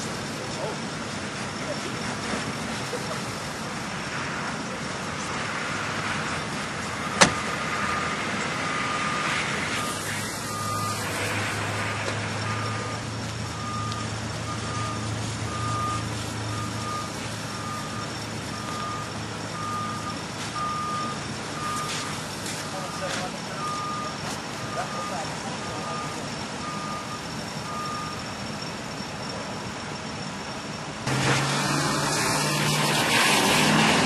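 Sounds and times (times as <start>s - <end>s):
outdoor background noise: 0.0s - 34.0s
vehicle reversing beeper: 0.0s - 34.0s.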